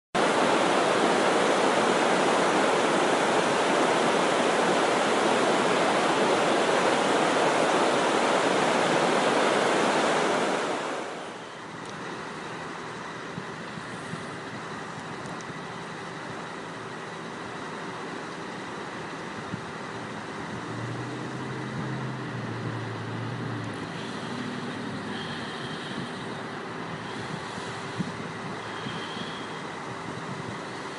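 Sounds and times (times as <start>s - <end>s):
river flowing: 0.2s - 30.9s
water rushing over dam spillway: 0.2s - 30.9s.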